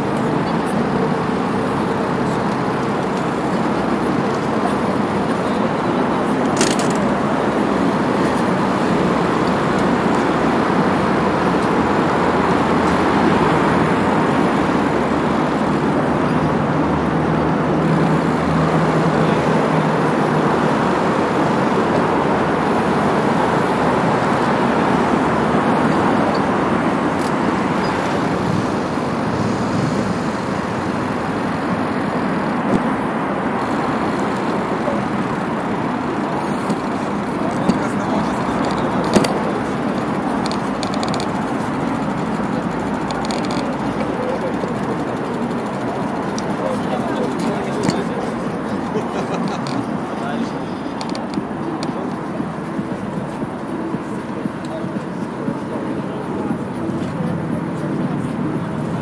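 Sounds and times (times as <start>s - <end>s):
bicycle riding over paving: 0.0s - 57.8s.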